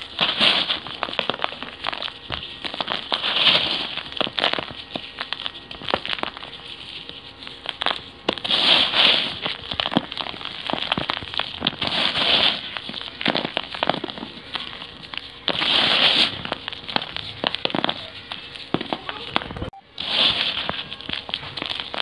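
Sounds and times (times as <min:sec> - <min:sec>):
sandy hiss of falling grains: 0:00.0 - 0:18.9, 0:19.9 - 0:22.0
clay balls crumbling and crackling: 0:00.0 - 0:22.0.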